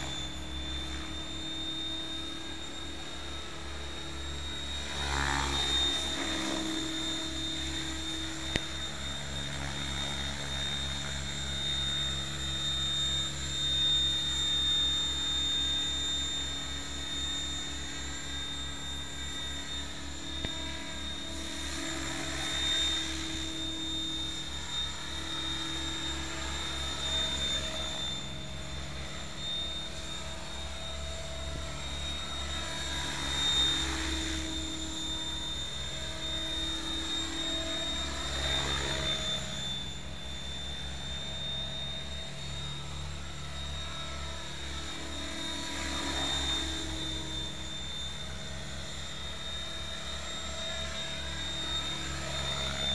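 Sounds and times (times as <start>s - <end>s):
rc helicopter rotor whining: 0.0s - 52.9s.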